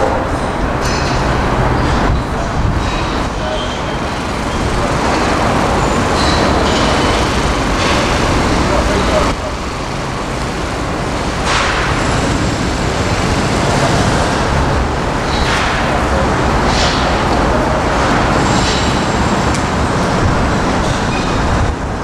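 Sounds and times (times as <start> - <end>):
loud outdoor rumbling: 0.0 - 22.0.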